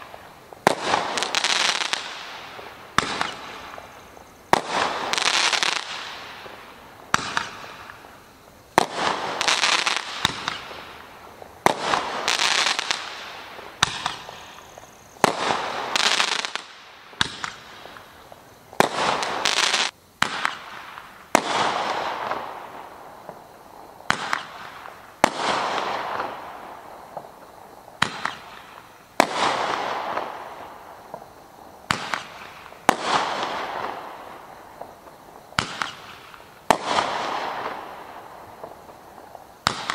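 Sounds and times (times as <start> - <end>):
firework crackle: 0.0 - 39.9.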